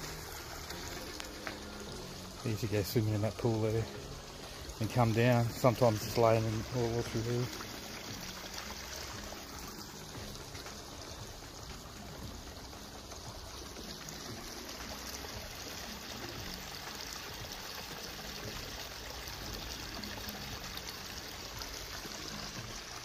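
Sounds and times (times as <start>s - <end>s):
creek trickling over rocks: 0.0s - 23.0s.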